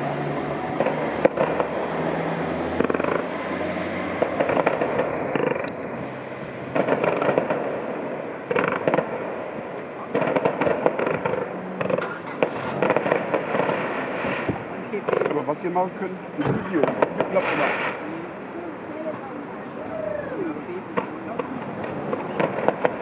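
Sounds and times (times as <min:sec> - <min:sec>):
distant fireworks bangs and crackling: 0:00.0 - 0:23.0.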